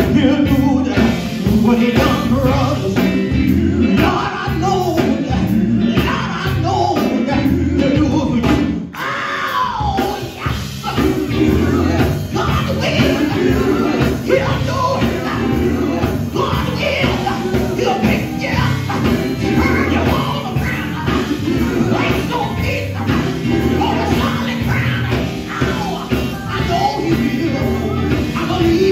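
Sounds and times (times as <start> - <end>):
electric guitars and bass: 0.0 - 28.9
person singing into microphone: 0.0 - 28.9.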